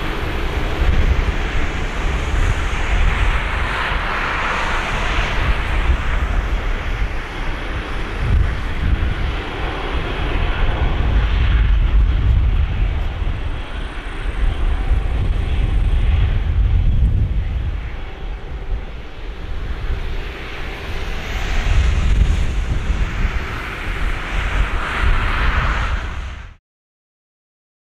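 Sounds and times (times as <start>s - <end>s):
jet engines rumbling at takeoff: 0.0s - 26.6s.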